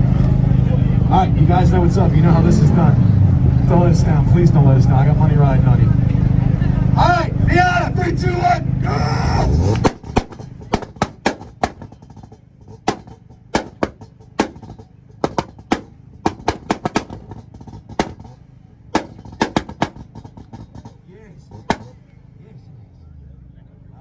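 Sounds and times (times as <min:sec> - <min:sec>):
exhaust popping and banging: 0:00.0 - 0:22.2
low engine rumble: 0:00.0 - 0:24.0.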